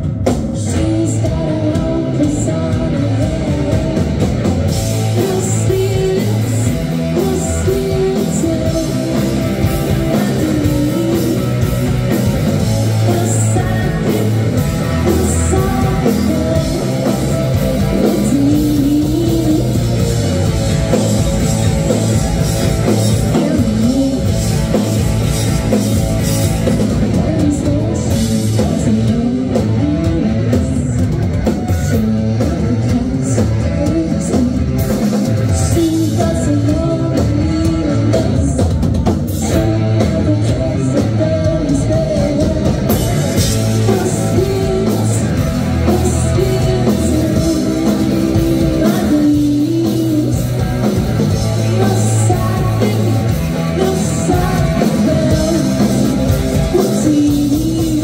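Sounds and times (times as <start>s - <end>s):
bass guitar: 0.0s - 58.0s
drum kit: 0.0s - 58.0s
electric guitars: 0.0s - 58.0s
woman singing: 0.5s - 58.0s.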